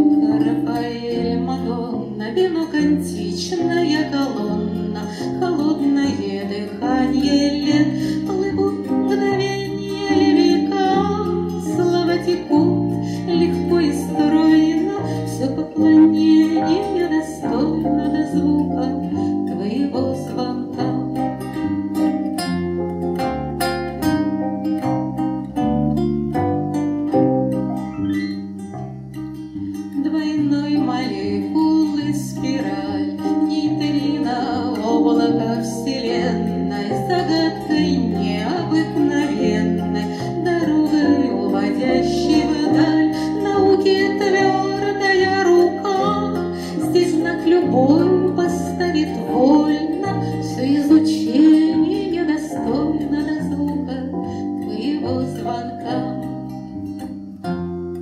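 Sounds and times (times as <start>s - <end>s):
woman singing: 0.0s - 21.3s, 29.9s - 56.5s
plucked guitar accompaniment: 0.0s - 58.0s.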